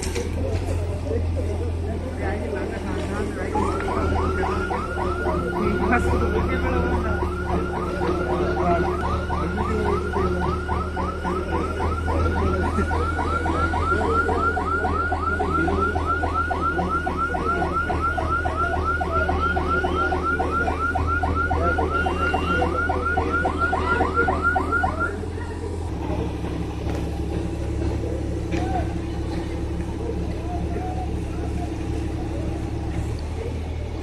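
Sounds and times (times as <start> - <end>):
diesel engine hum: 0.0 - 34.0
crane warning alarm whooping: 2.6 - 32.9.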